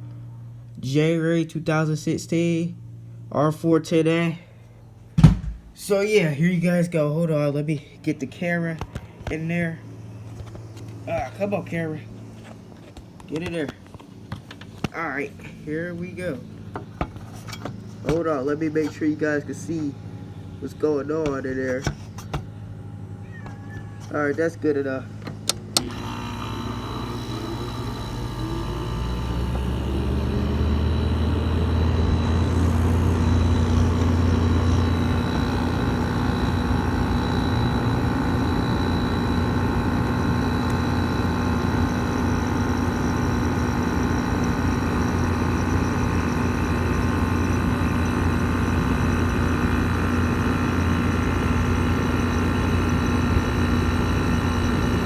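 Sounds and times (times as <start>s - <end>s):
air conditioner motor humming: 0.0s - 55.0s.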